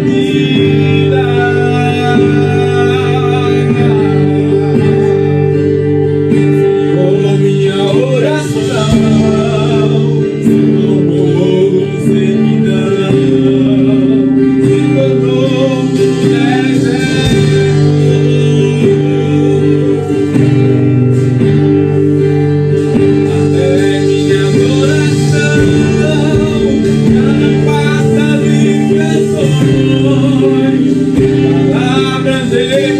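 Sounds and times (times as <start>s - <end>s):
worship band guitar: 0.0s - 32.9s.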